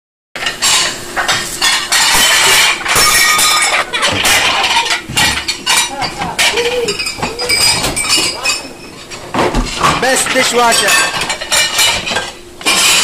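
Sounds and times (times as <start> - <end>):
dishes and cutlery clattering: 0.4 - 13.0.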